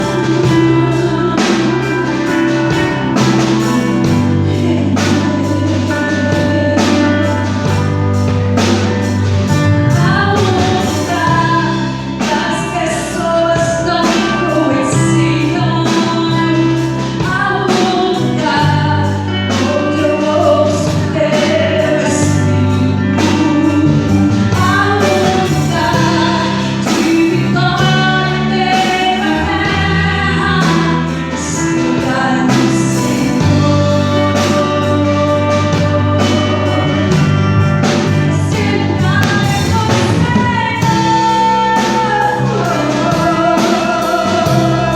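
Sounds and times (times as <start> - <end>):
band playing gospel song: 0.0 - 44.9
person singing lead melody: 0.0 - 44.9.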